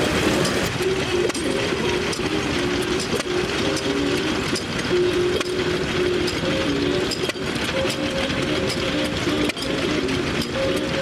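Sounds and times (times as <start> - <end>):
stationary engines clattering: 0.0 - 11.0.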